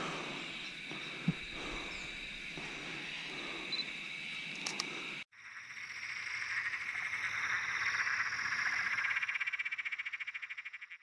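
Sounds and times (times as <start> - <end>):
frogs trilling: 0.0 - 11.0.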